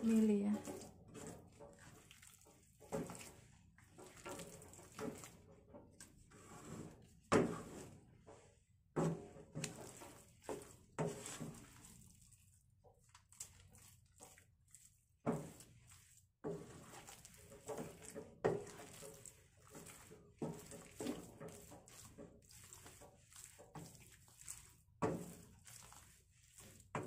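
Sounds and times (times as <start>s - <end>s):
spoon stirring thick batter: 0.0s - 27.0s.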